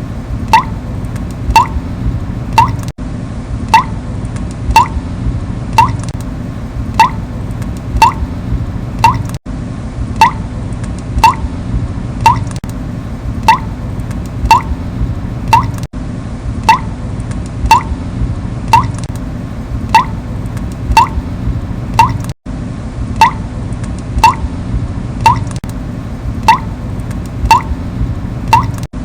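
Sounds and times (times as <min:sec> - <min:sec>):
low background rumble: 0:00.0 - 0:29.0.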